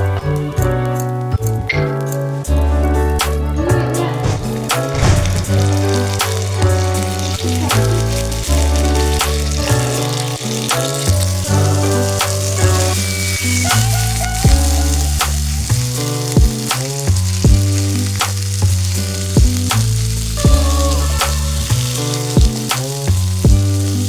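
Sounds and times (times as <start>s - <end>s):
background music with bass: 0.0s - 24.0s
food sizzling in a pan: 4.2s - 24.0s.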